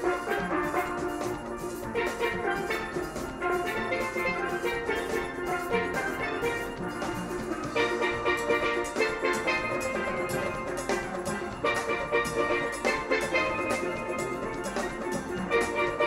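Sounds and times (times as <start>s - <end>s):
steady drum beat: 0.0s - 16.0s
steel pans playing: 0.0s - 16.0s.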